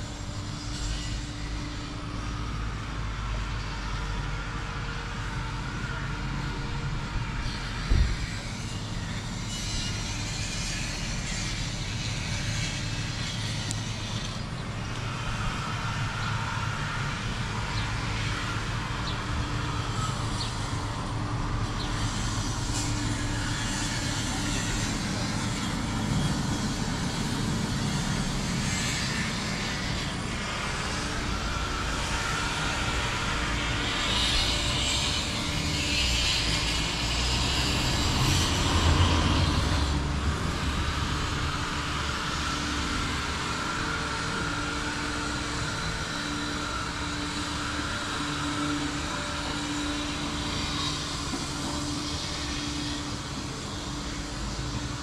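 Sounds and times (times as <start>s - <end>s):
city traffic: 0.0s - 55.0s.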